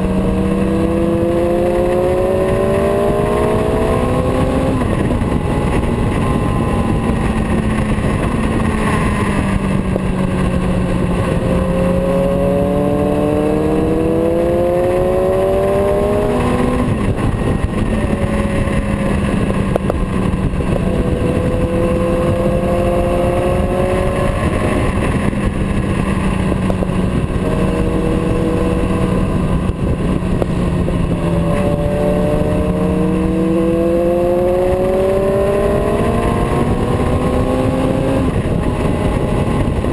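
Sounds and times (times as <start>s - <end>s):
heavy rushing noise: 0.0s - 39.9s
motorcycle engine accelerating: 0.0s - 39.9s.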